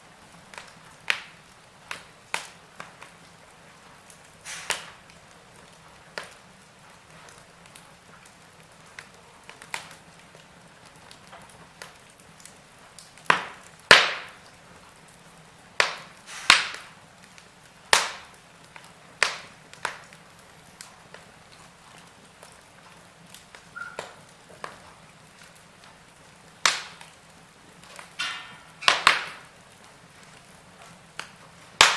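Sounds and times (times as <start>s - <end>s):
faint background hiss: 0.0s - 31.9s
wood fire crackling: 0.0s - 31.9s.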